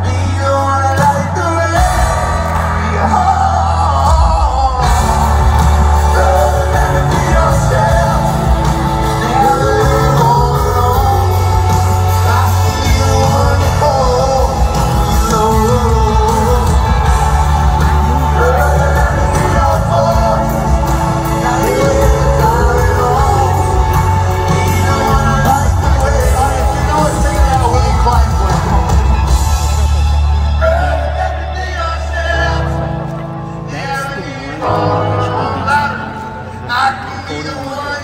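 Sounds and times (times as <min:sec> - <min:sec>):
live band playing: 0:00.0 - 0:38.0
person singing: 0:00.0 - 0:38.0.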